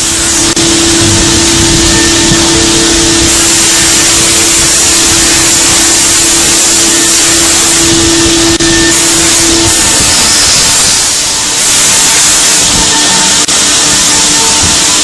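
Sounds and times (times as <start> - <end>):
machining center cutting hiss: 0.0 - 15.0
steady machine tone: 0.0 - 15.0.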